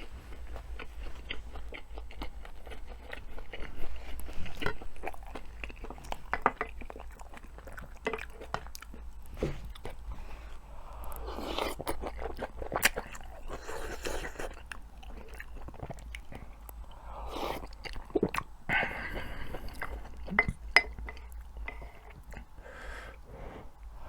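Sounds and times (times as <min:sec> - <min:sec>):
person chewing food: 0:00.0 - 0:24.0
food crunching: 0:00.3 - 0:10.1, 0:11.1 - 0:22.5.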